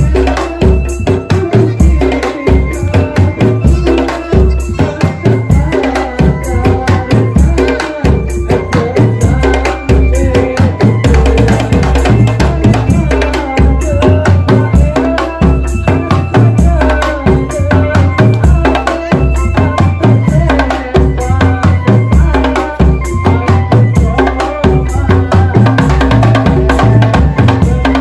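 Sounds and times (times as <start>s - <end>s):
bass drums: 0.0s - 28.0s
wavering melody line: 0.0s - 28.0s.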